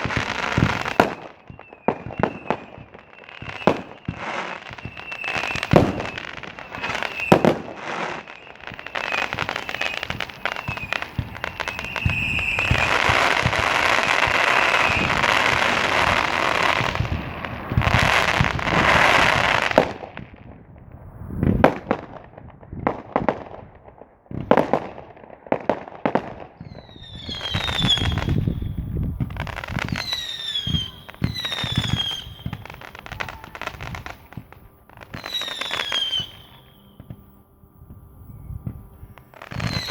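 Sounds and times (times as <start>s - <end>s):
fireworks pops: 0.0s - 20.4s, 26.6s - 37.3s, 37.9s - 39.9s
fireworks whistles: 0.0s - 23.7s, 24.3s - 39.9s
fireworks bangs: 0.0s - 39.9s
fireworks crackling: 0.0s - 39.9s.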